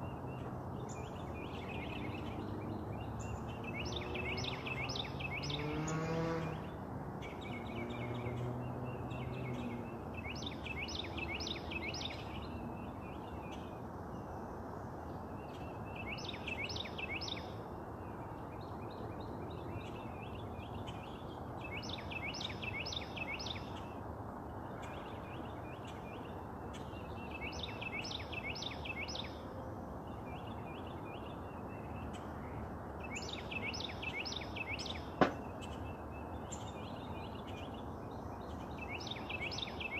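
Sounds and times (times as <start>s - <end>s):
songbird whistled song: 0.0s - 5.6s, 7.2s - 13.7s, 15.4s - 17.5s, 18.6s - 23.8s, 24.8s - 29.4s, 30.2s - 39.9s.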